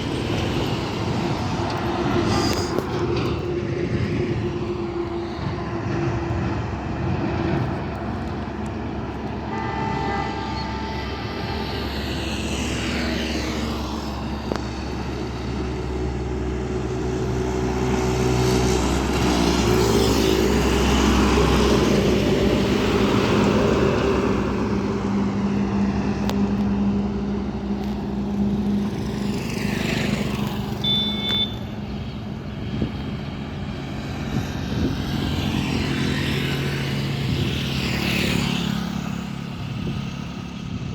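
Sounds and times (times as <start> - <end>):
trucks driving past: 0.0 - 40.9.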